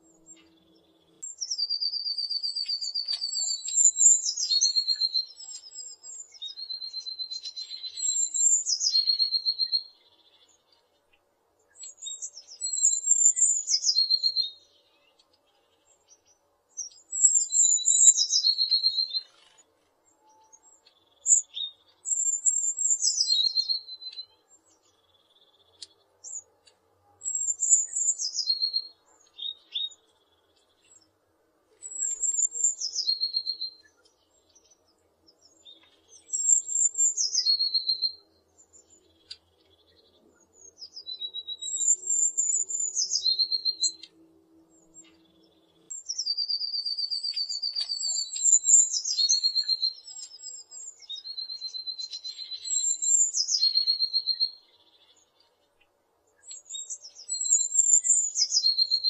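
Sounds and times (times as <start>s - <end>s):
bird singing high notes and trill: 0.0s - 10.7s, 16.8s - 19.4s, 20.2s - 26.5s, 27.2s - 30.1s, 31.9s - 34.6s, 35.5s - 55.4s, 56.4s - 59.0s.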